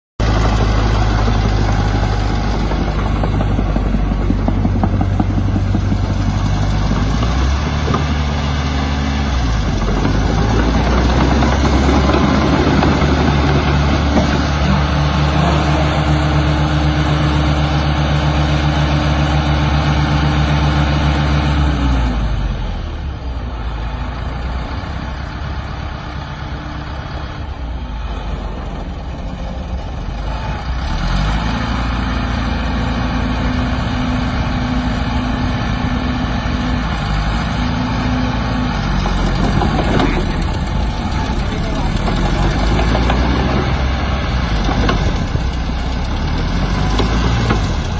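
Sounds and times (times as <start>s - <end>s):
diesel engine running: 0.2s - 47.9s.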